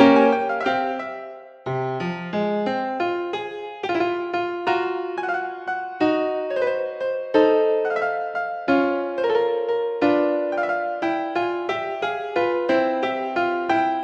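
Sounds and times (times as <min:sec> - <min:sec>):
piano-like keyboard melody: 0:00.0 - 0:14.0.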